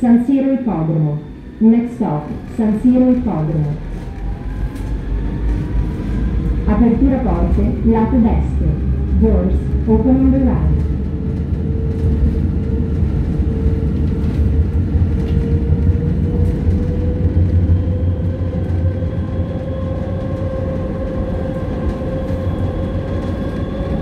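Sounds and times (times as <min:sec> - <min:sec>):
train rumbling through tunnel: 0:00.0 - 0:24.0.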